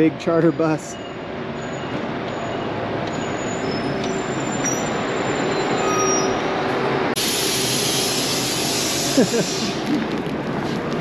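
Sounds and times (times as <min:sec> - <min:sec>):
brake squeals: 0:00.0 - 0:10.0
bus diesel engine running: 0:00.0 - 0:11.0.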